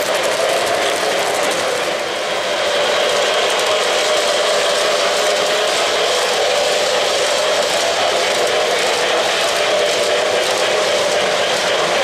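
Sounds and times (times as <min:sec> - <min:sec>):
model train rattling and whirring: 0:00.0 - 0:12.0.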